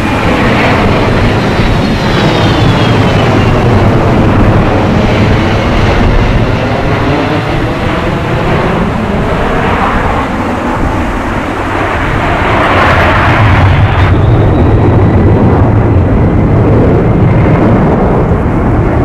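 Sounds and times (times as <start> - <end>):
jet aircraft roar: 0.0 - 19.0.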